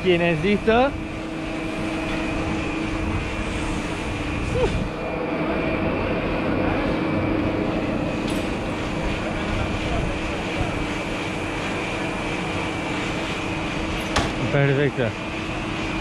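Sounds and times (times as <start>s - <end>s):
chairlift machinery hum: 0.0s - 16.0s.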